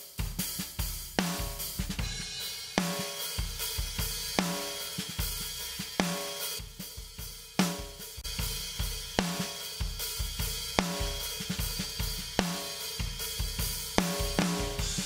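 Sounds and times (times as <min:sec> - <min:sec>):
compressed rock drum beat: 0:00.0 - 0:15.0
loud drum hit with ring: 0:00.0 - 0:15.0.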